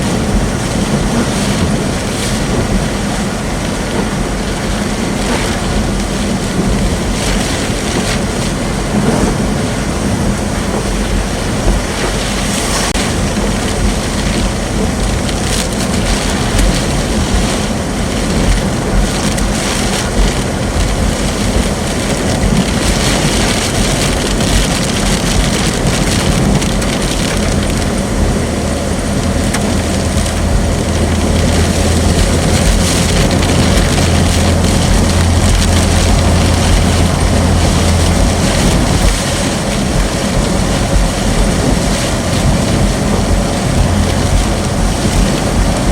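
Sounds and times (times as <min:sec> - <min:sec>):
heavy rain: 0:00.0 - 0:45.9
low vehicle rumble: 0:00.0 - 0:45.9
wind gusts: 0:00.0 - 0:45.9.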